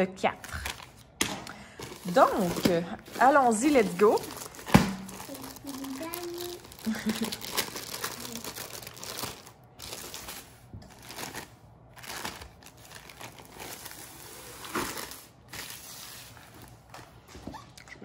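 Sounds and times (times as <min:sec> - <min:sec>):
plastic sleeve crinkling: 0:00.5 - 0:17.2.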